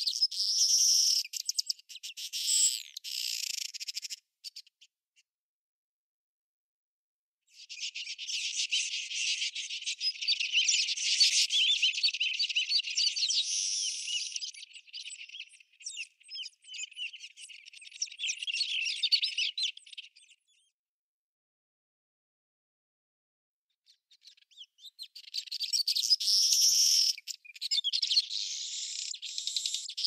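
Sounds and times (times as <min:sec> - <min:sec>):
small birds chirping: 0:00.0 - 0:04.9, 0:07.5 - 0:20.8, 0:23.7 - 0:30.0.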